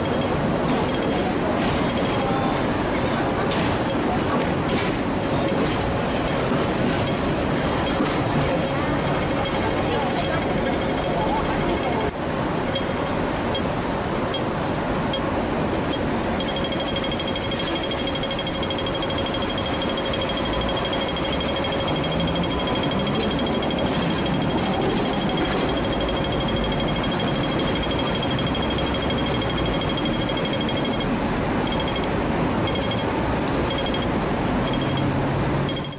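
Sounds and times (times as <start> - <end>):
crossing signal ticking: 0.0 - 2.4, 6.2 - 12.1, 12.7 - 13.7, 15.9 - 35.9
city traffic noise: 0.0 - 35.9.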